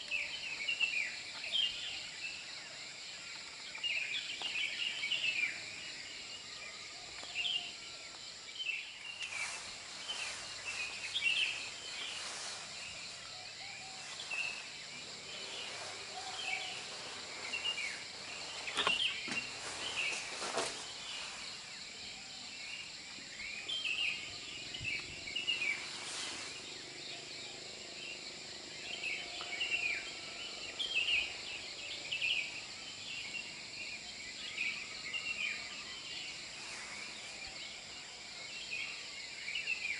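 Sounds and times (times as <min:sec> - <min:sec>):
high insect drone: 0:00.0 - 0:39.9
small birds chirping: 0:00.0 - 0:39.9.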